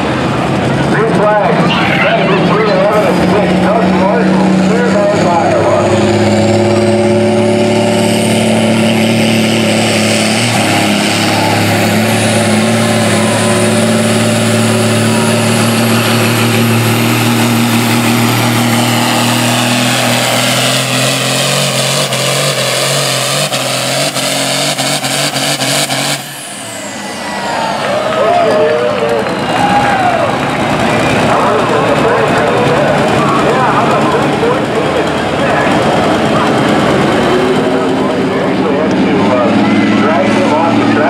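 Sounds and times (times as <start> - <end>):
diesel tractor engine at full throttle: 0.0 - 41.0.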